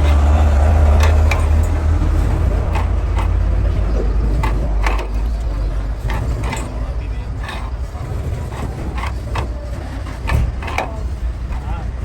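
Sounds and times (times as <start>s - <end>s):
sharp knocks and clicks: 0.0s - 12.0s
vehicle engine rumbling: 0.0s - 12.0s.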